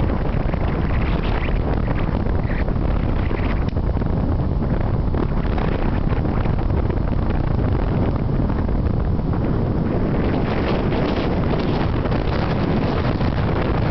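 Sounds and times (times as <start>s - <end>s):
strong wind buffeting microphone: 0.0s - 13.9s.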